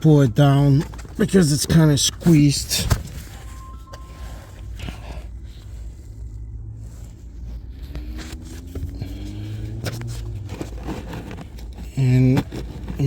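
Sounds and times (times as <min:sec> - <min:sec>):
steady low rumble: 0:00.0 - 0:12.1
clicks and rustles: 0:00.7 - 0:13.0.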